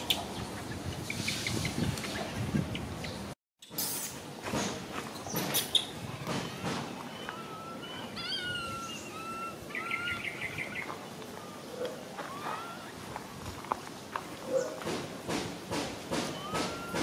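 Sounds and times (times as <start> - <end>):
birds whistling and trilling: 0.0 - 13.1, 16.1 - 17.0.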